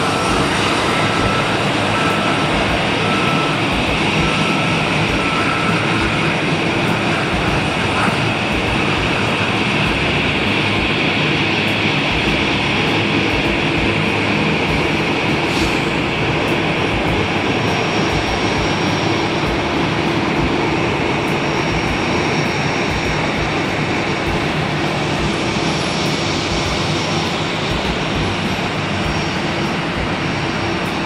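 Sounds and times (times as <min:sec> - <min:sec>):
airliner engine and airflow noise: 0:00.0 - 0:31.0
faint high whine: 0:00.0 - 0:31.0.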